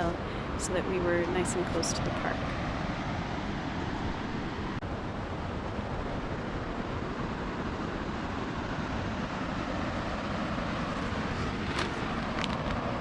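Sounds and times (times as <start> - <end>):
river water rushing: 1.5 - 13.0.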